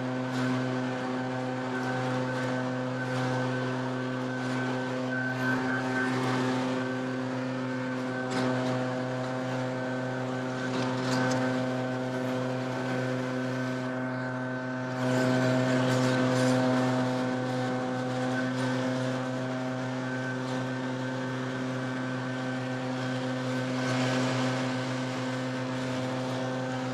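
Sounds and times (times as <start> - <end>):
leaf blower running: 0.0 - 26.9.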